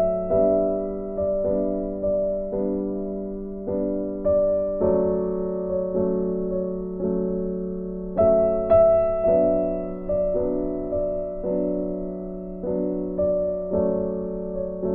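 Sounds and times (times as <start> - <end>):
soft slow piano chords: 0.0 - 14.9.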